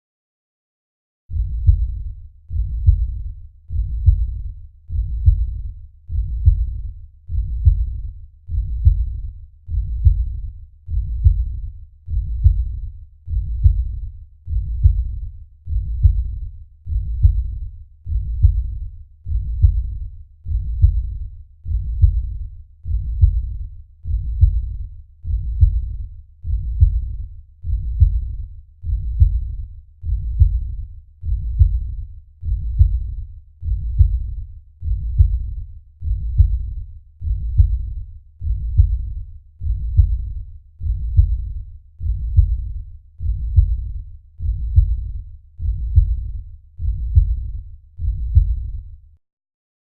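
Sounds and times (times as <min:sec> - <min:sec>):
heartbeat thumping: 0:01.3 - 0:48.9.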